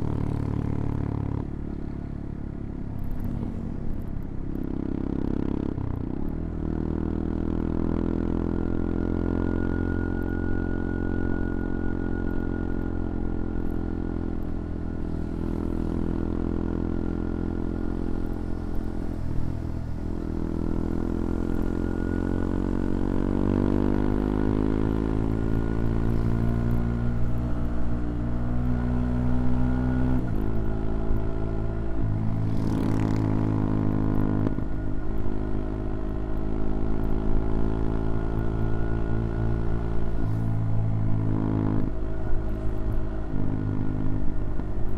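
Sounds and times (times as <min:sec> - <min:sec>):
motorcycle engine accelerating: 0:03.0 - 0:44.9.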